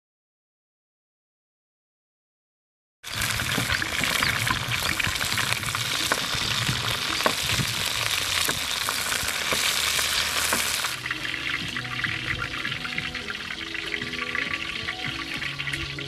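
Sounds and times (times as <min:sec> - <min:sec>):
frogs sizzling in hot oil: 0:03.0 - 0:16.0.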